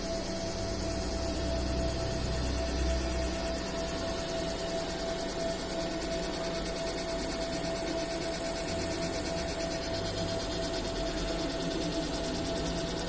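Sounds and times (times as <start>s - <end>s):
constant machine whine: 0.0s - 13.0s
laser marking machine hiss: 0.0s - 13.0s.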